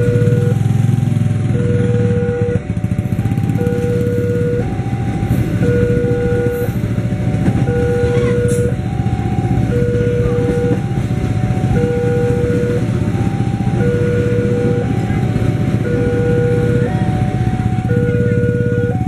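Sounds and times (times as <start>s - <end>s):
level crossing warning bell: 0.0s - 19.0s
train coaches rolling on rails: 0.0s - 19.0s.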